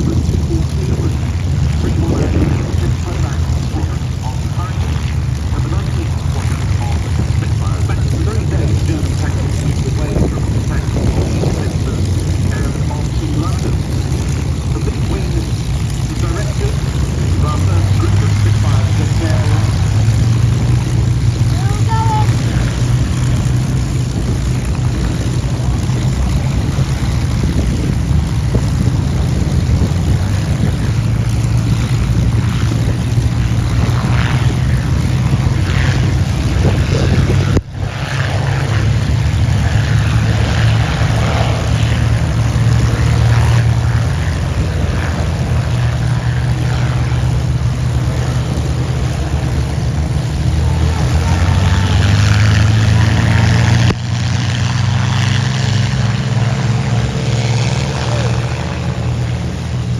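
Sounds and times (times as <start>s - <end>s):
piston aircraft engines droning: 0.0s - 59.9s.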